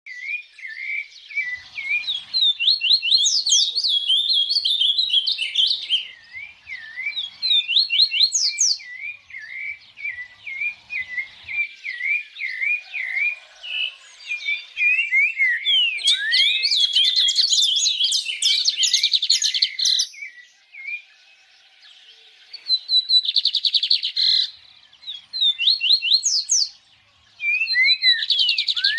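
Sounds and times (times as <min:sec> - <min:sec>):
thrushes chirping: 0:00.1 - 0:28.9.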